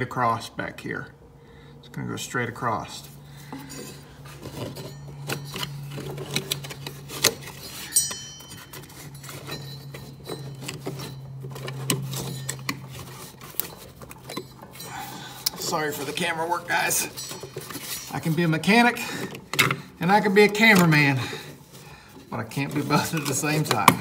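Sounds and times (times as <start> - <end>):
steady low hum: 0.0 - 24.0
belt rubbing and clicking on metal: 3.0 - 24.0.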